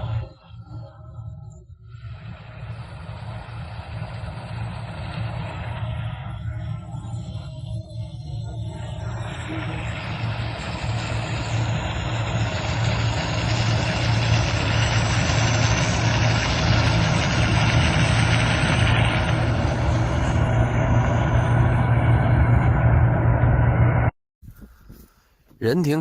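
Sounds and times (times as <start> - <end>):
low engine hum: 0.0 - 24.1
machinery clatter and rush: 2.0 - 24.1.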